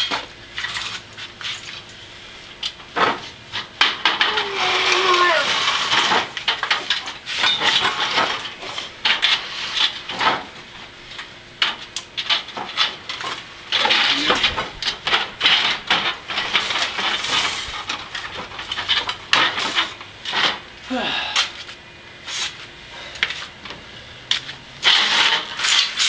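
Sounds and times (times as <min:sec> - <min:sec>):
metal clanks and rattles: 0:02.6 - 0:20.7, 0:23.2 - 0:26.0.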